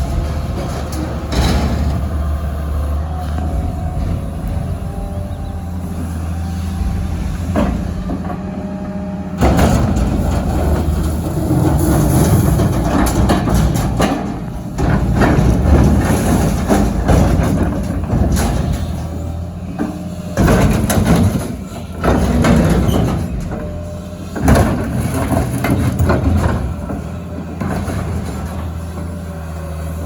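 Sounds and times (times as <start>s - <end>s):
diesel engine running under load: 0.0s - 30.0s
metal crunching and banging: 0.0s - 30.0s.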